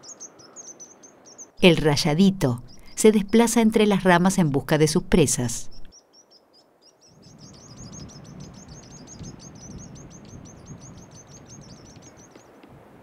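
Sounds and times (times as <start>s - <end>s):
bird high chipping calls: 0.0s - 4.2s, 5.4s - 12.6s
faint steady background noise: 0.0s - 13.0s.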